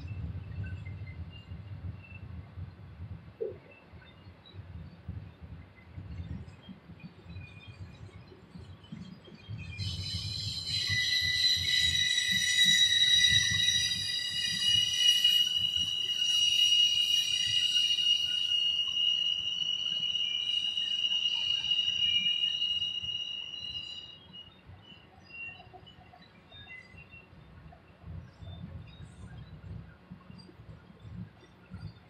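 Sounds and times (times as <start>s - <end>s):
low rumble of train cars: 0.0s - 32.0s
train wheels squealing on rails: 0.0s - 32.0s.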